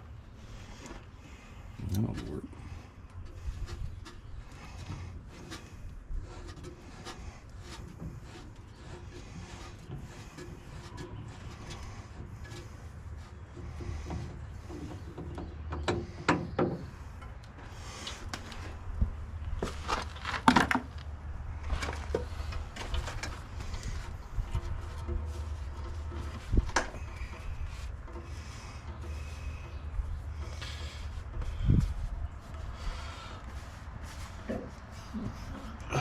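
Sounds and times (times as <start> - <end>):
steady low hum: 0.0 - 36.0
parts clattering: 2.6 - 31.9.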